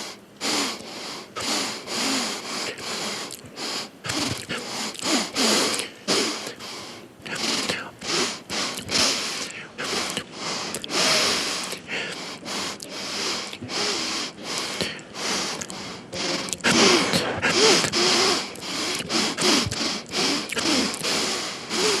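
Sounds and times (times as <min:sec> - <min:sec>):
man sniffing: 0:00.0 - 0:22.0.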